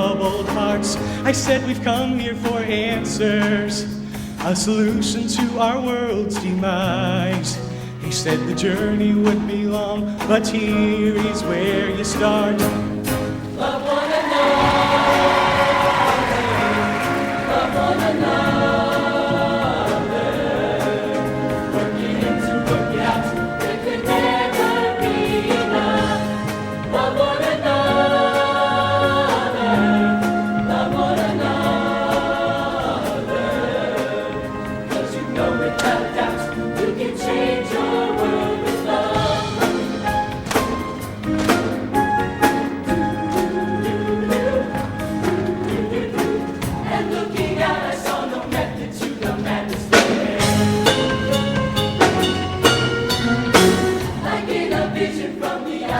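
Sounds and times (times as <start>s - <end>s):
choir singing in harmony: 0.0s - 55.9s
drum beat: 9.3s - 55.9s.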